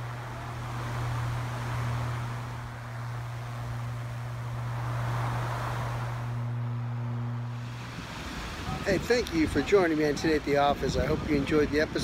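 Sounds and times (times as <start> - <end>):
air rushing from fan: 0.0 - 12.0
fan motor hum: 0.0 - 12.0.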